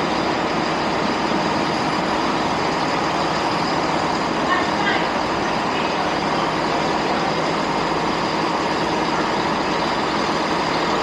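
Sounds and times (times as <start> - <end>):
idling train engine: 0.0 - 11.0.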